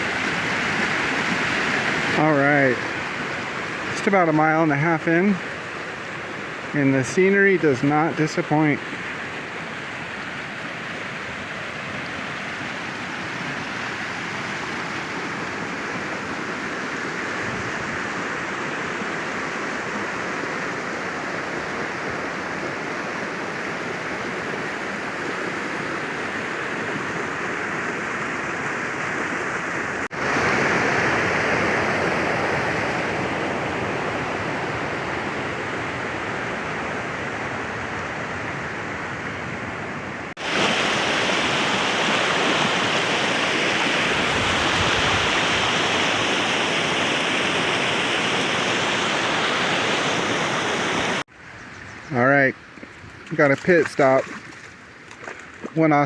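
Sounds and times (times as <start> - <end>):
fast-flowing creek rushing: 0.0 - 51.3, 52.2 - 56.0.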